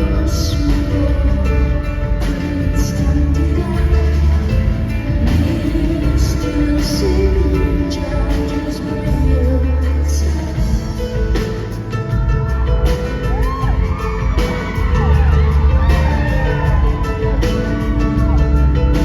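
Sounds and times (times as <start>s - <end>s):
heavy bass pulse: 0.0s - 19.0s
live instrumental concert music: 0.0s - 19.0s.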